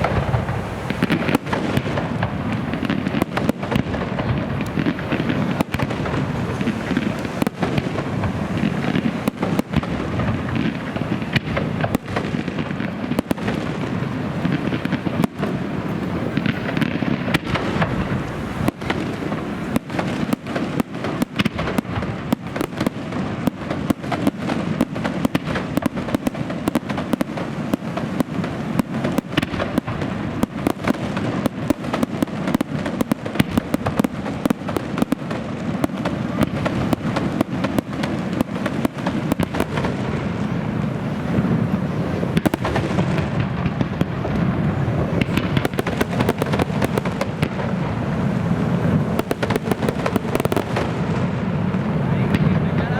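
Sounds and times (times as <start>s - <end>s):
fireworks bursting and crackling: 0.0s - 52.9s
low rumble of explosions: 0.0s - 52.9s.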